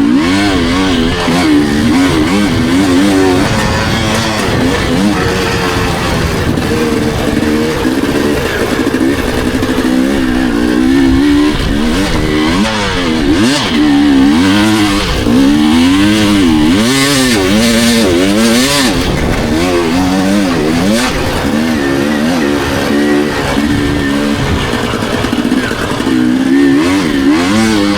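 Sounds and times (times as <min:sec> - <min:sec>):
dirt bike engine revving: 0:00.0 - 0:27.9.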